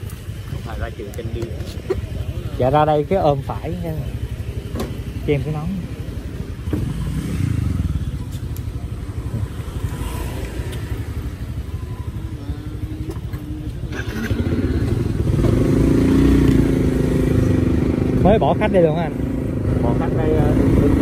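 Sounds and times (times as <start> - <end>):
motorbike engine rumble: 0.0 - 21.0.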